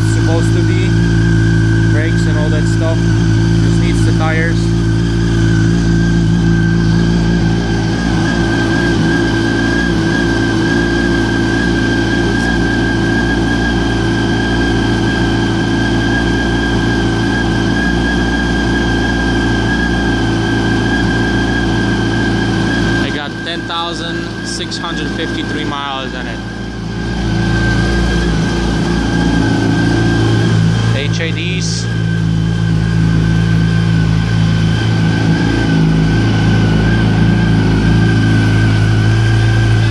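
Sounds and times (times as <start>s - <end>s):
motorcycle engine idling: 0.0s - 39.9s
steady high whine: 0.0s - 39.9s.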